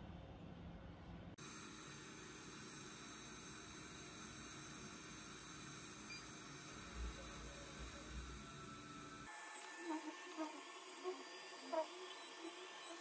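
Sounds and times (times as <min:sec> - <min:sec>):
suction fan hissing and whining: 0:01.4 - 0:13.0.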